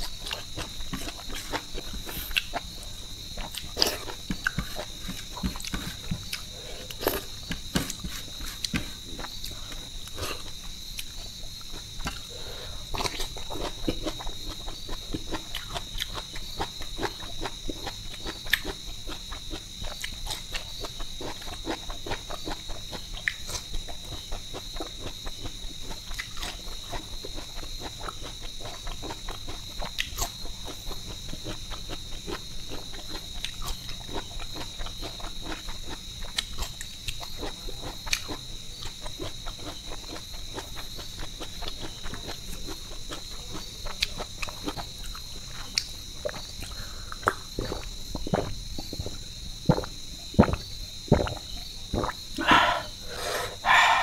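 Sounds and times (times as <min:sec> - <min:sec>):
insects trilling: 0:00.0 - 0:54.0
wet chewing: 0:03.4 - 0:12.3, 0:12.9 - 0:54.0.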